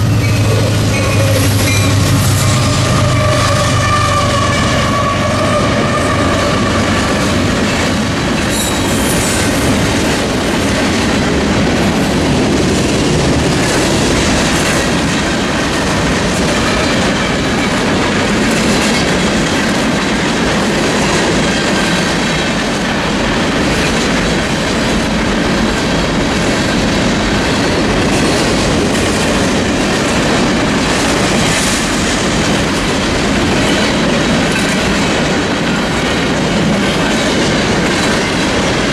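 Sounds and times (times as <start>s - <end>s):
freight train rolling past: 0.0s - 38.9s
wheels clacking over rails: 0.0s - 38.9s.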